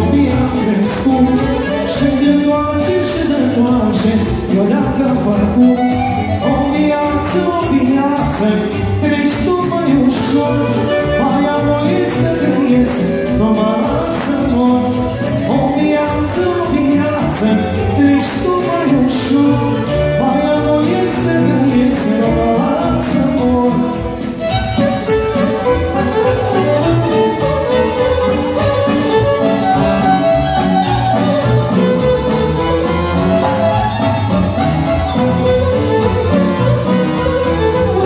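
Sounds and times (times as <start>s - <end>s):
accordion: 0.0s - 38.0s
drums: 0.0s - 38.0s
violin melody: 0.0s - 38.0s.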